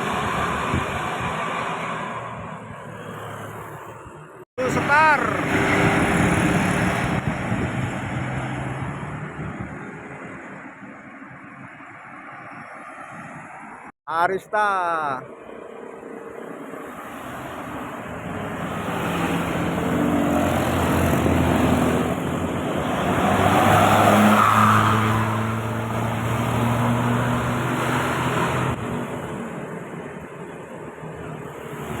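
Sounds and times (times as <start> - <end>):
bus passing: 0.0 - 14.5, 15.2 - 32.0.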